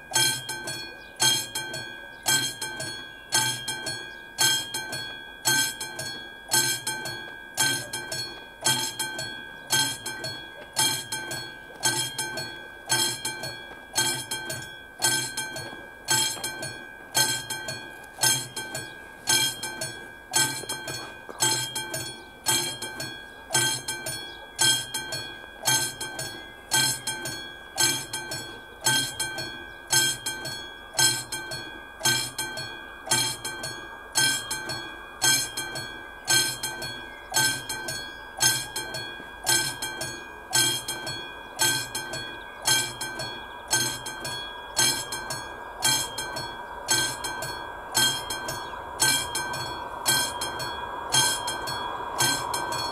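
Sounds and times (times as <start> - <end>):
level crossing bell ringing: 0.0 - 52.9.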